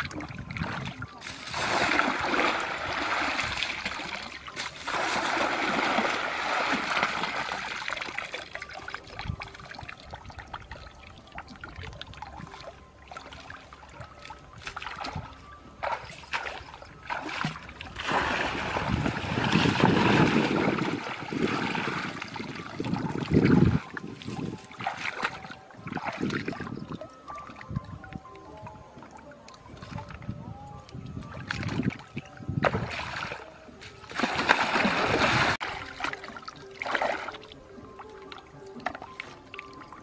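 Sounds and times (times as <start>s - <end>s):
muddy water splashing: 0.0s - 27.8s, 31.1s - 40.0s.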